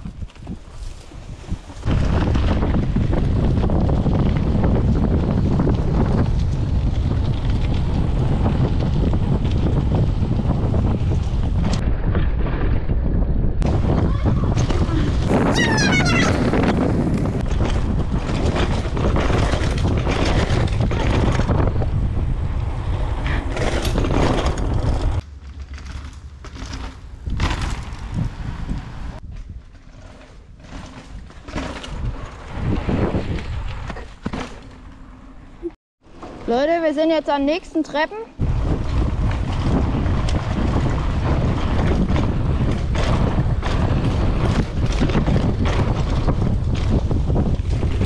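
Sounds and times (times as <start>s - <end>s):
wind buffeting microphone: 0.0s - 25.2s, 27.0s - 34.4s, 35.6s - 48.0s
mountain bike riding noise: 0.0s - 48.0s.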